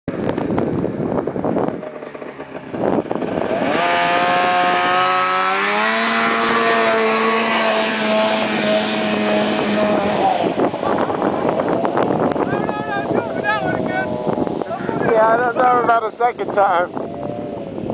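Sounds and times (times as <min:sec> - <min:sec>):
wind buffeting the microphone: 0:00.1 - 0:17.9
snowmobile engine revving: 0:01.7 - 0:17.9.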